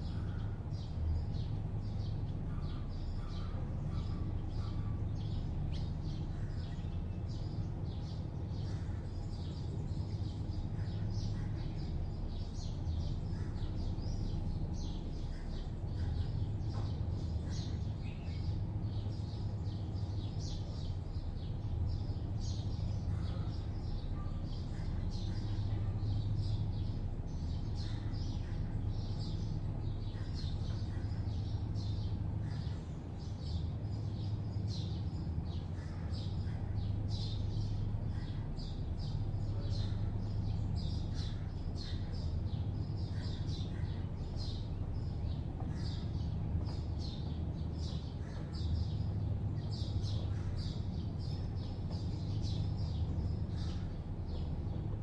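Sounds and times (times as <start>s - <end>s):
distant city traffic hum: 0.0s - 55.0s
small birds chirping: 0.0s - 55.0s.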